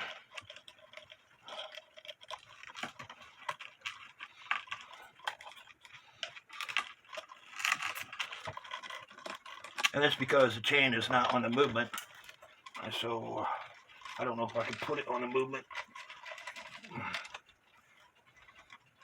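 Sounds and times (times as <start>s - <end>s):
metal chain rattling and clinking: 0.0s - 19.0s.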